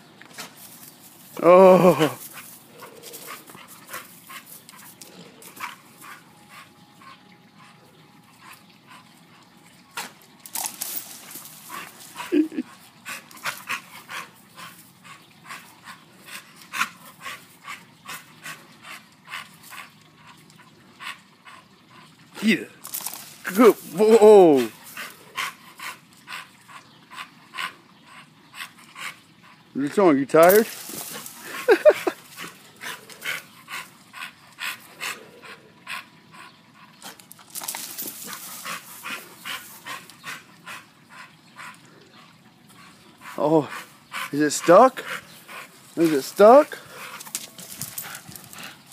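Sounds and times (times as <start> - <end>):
dog panting: 2.0 - 22.4, 23.0 - 29.8, 30.4 - 48.9.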